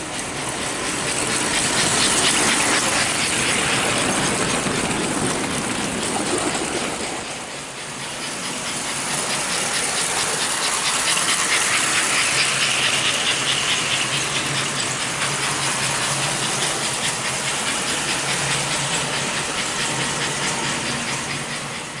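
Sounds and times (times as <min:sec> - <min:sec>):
model train running on track: 0:00.0 - 0:22.0.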